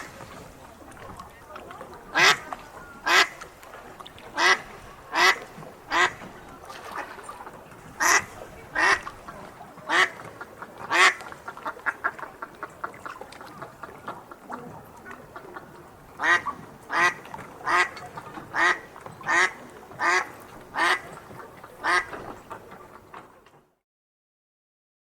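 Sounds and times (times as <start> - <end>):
ducks quacking: 2.0 - 22.6.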